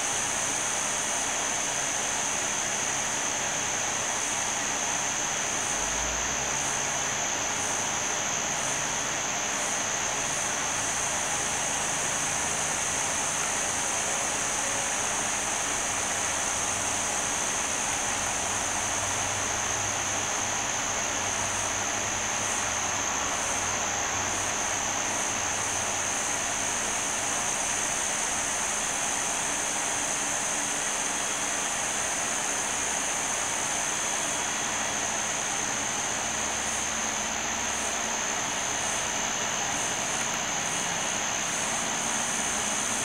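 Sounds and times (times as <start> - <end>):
high-pitched whine: 0.0 - 43.0
steady hiss: 0.0 - 43.0.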